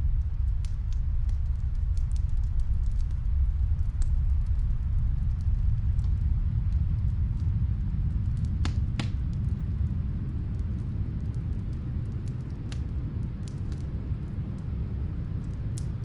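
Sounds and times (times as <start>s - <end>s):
fire popping: 0.0s - 16.0s
muffled snowstorm wind rumble: 0.0s - 16.0s
wood fire crackling: 0.0s - 16.0s.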